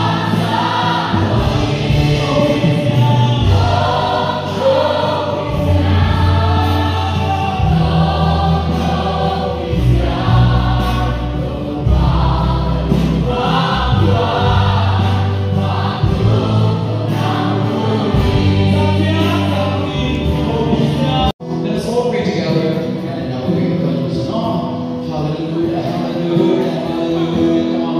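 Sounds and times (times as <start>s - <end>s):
choir singing worship song: 0.0s - 21.3s, 22.2s - 27.9s.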